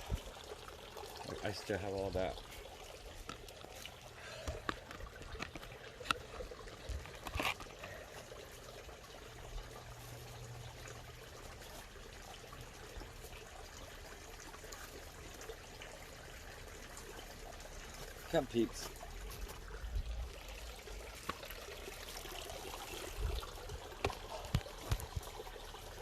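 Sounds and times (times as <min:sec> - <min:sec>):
water trickling into pond: 0:00.0 - 0:26.0.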